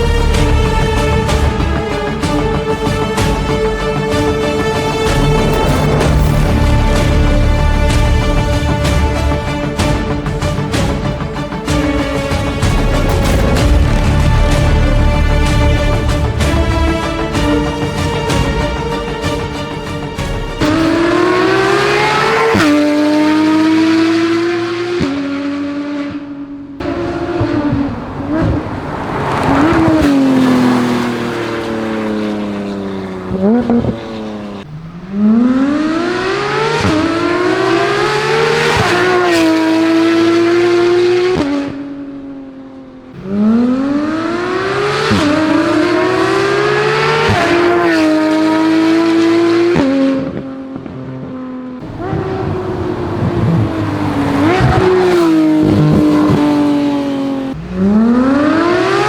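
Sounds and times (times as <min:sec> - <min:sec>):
sports car accelerating hard: 0:00.0 - 0:59.0.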